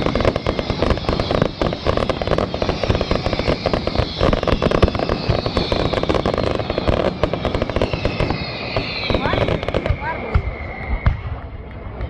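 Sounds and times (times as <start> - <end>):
falling firework whistles: 0.0 - 11.6
fireworks bangs and crackling: 0.0 - 12.0.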